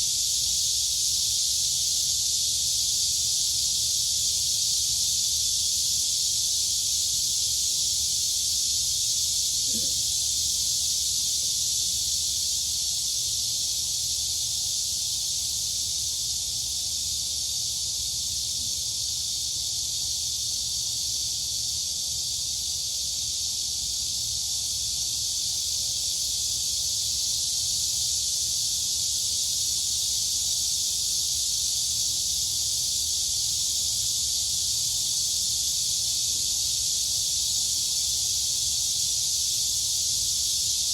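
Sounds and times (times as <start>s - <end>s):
crickets and cicadas shrilling: 0.0s - 40.9s.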